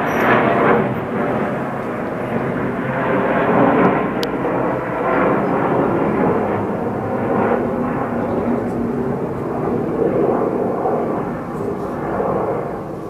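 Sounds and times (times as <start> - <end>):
aircraft engines rushing overhead: 0.0 - 13.0.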